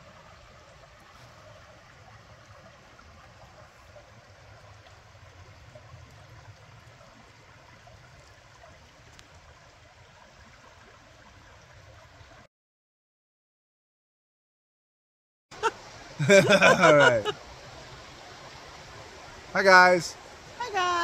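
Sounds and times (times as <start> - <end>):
creek water over stones: 0.0 - 12.5, 15.6 - 21.0.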